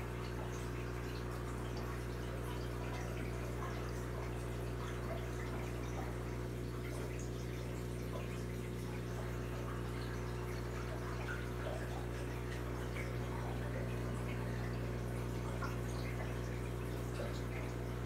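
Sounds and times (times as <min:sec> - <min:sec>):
aquarium filter hum: 0:00.0 - 0:18.0
trickling dripping water: 0:00.0 - 0:18.0.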